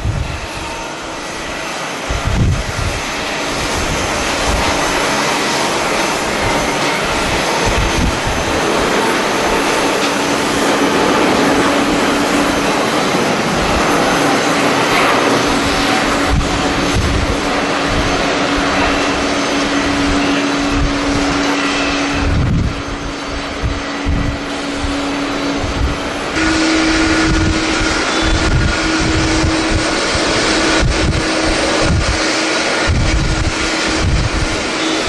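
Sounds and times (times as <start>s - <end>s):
jet engines running: 0.0s - 35.0s
low hum: 0.0s - 35.0s
wind buffeting microphone: 0.0s - 35.0s.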